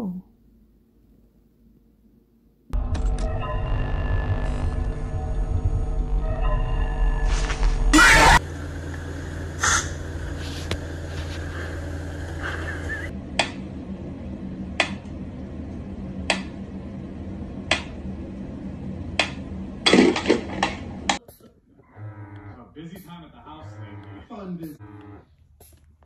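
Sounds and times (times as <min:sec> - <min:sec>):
steady low hum: 0:00.2 - 0:26.0.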